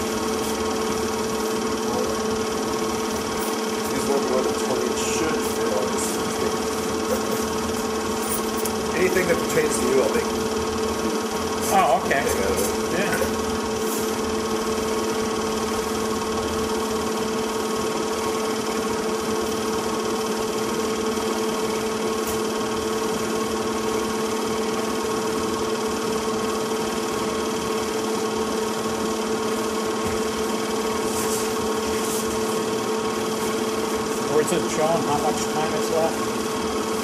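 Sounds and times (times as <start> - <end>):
faint mechanical whir: 0.0 - 37.0
steady two-tone hum: 0.0 - 37.0.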